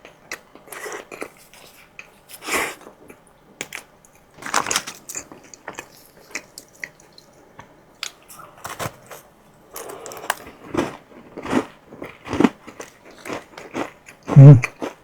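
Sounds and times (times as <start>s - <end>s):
person chewing food: 0.3s - 4.2s, 5.1s - 15.0s.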